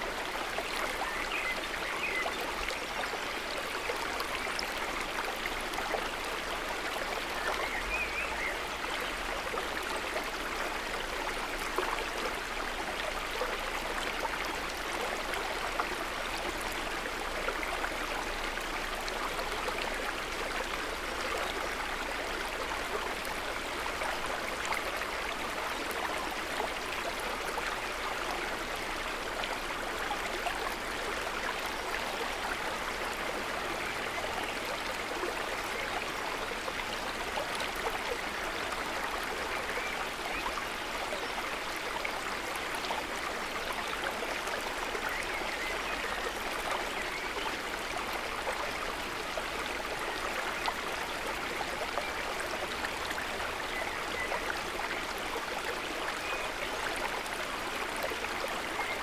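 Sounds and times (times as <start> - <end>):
river water rushing and splashing: 0.0 - 59.0.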